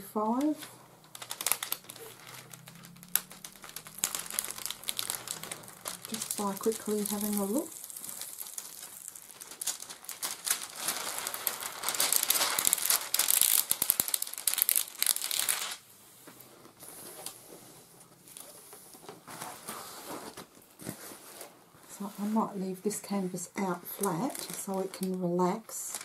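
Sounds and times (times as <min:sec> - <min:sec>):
plastic film crinkling: 0:00.0 - 0:26.0.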